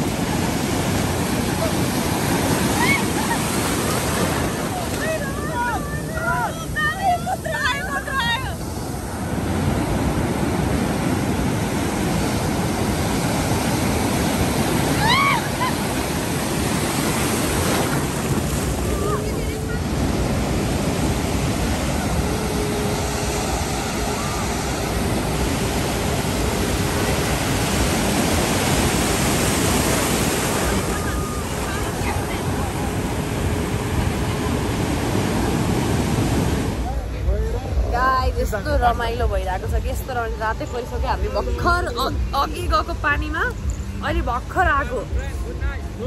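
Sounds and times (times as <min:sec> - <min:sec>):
sea surf breaking: 0:00.0 - 0:46.0.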